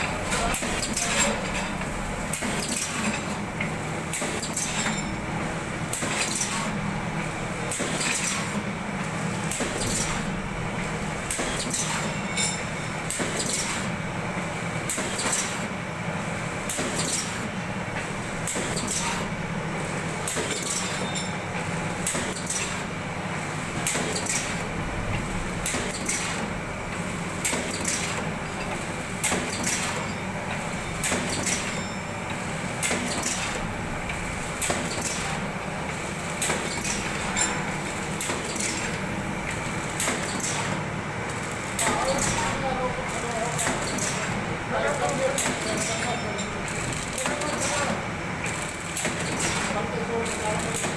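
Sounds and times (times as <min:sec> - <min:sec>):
mechanical clacks: 0:00.0 - 0:06.8, 0:09.5 - 0:10.4, 0:11.2 - 0:13.9, 0:16.6 - 0:19.3, 0:20.2 - 0:23.0, 0:23.8 - 0:50.9
machine motor hum: 0:00.0 - 0:11.7, 0:21.5 - 0:50.9.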